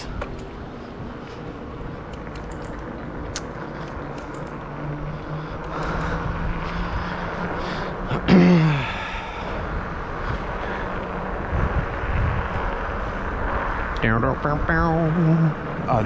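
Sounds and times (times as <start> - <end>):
low hum: 0.0 - 16.0
wind and road noise: 0.0 - 16.0.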